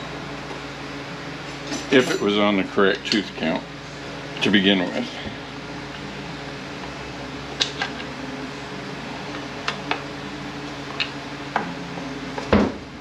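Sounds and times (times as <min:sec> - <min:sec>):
shop fan humming: 0:00.0 - 0:13.0.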